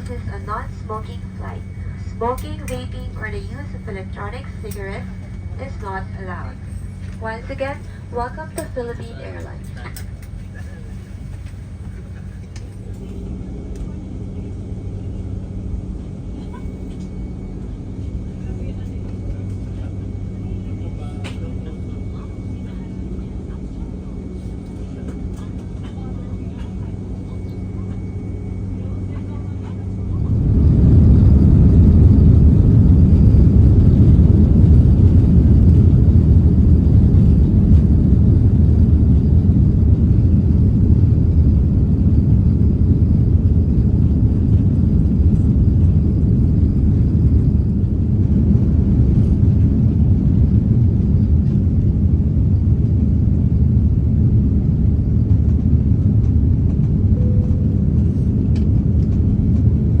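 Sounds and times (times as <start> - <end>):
jet engine rumble in cabin: 0.0 - 60.0.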